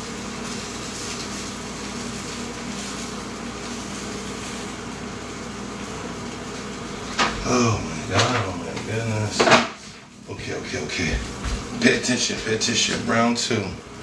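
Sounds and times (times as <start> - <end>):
machine hum with hiss: 0.0 - 14.0.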